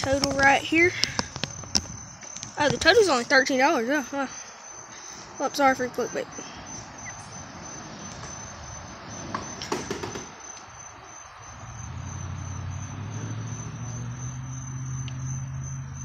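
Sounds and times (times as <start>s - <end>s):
insect chirring: 0.0s - 16.0s.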